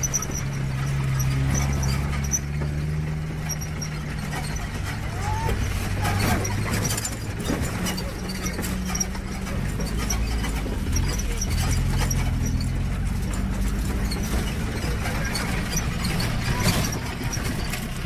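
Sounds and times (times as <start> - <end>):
body rattles and knocks: 0.0 - 18.0
jeep engine running: 0.0 - 18.0.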